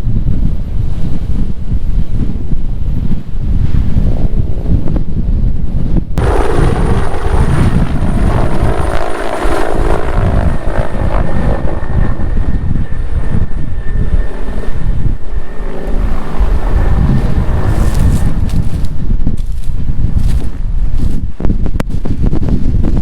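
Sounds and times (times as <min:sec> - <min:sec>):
helicopter turbine and rotors: 0:00.0 - 0:23.0
wind buffeting microphone: 0:00.0 - 0:23.0.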